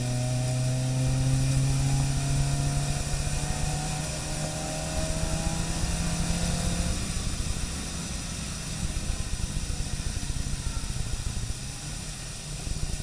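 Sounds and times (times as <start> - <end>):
car engine: 0.0 - 13.0
low rumble: 0.0 - 13.0
tyres hissing on wet tarmac: 0.0 - 13.0.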